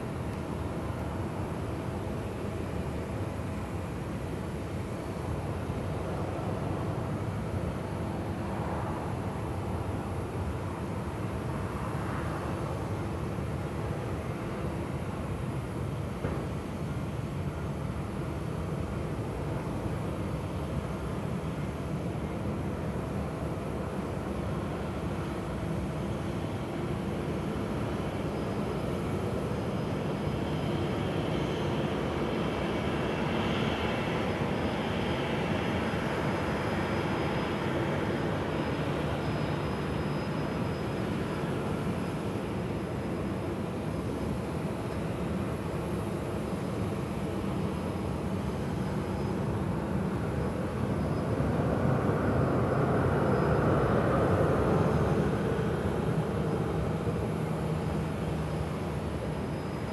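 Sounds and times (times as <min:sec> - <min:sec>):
faint high-pitched whine: 0:00.0 - 0:59.9.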